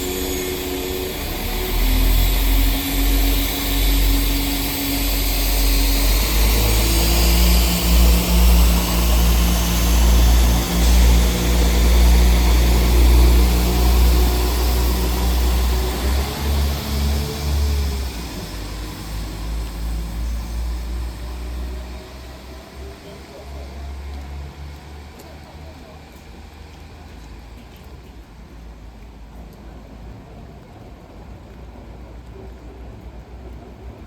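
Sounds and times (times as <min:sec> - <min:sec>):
diesel train engines pulling away: 0:00.0 - 0:34.0.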